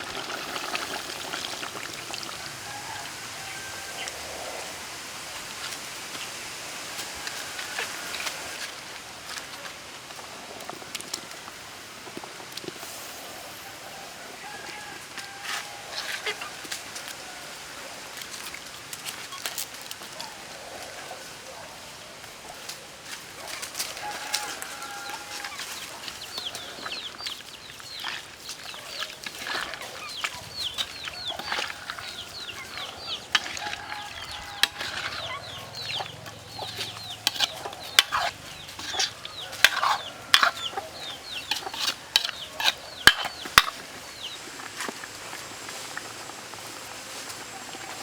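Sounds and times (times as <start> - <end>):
chickens clucking and peeping: 0.0 - 8.7, 11.5 - 18.4, 23.4 - 48.0.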